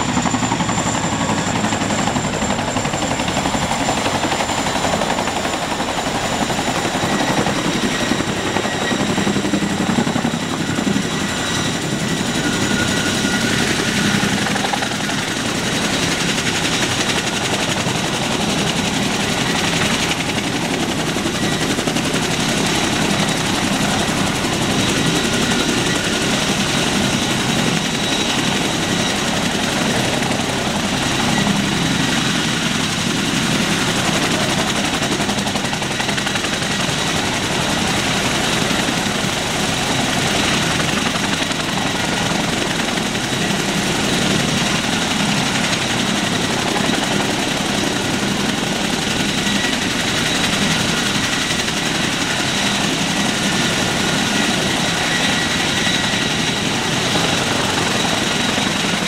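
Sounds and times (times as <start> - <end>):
helicopter rotor noise: 0.0 - 59.0
high turbine whine: 0.0 - 59.0.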